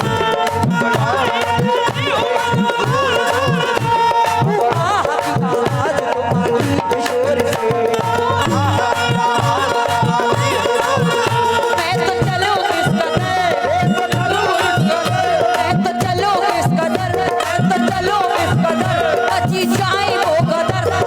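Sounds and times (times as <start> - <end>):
harmonium melody: 0.0 - 21.0
tabla beating a rhythm: 0.0 - 21.0.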